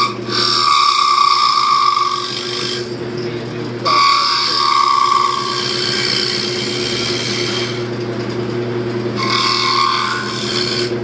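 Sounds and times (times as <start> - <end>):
turning tool scraping wood: 0.0 - 8.4, 9.1 - 11.0
wood lathe motor running: 0.0 - 11.0.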